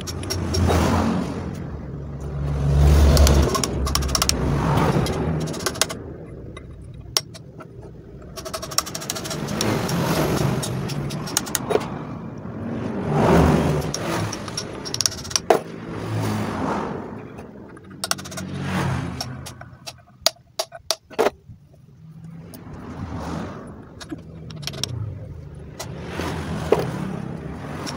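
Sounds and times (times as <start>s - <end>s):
road vehicles passing: 0.0s - 27.9s.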